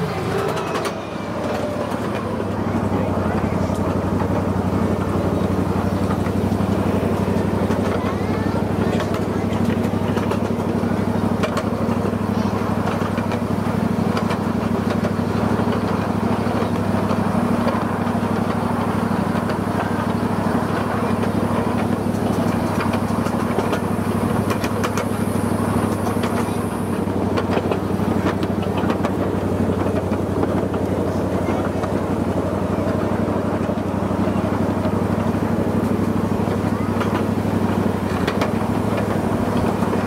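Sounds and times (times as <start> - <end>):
miniature train engine drone: 0.0 - 40.0.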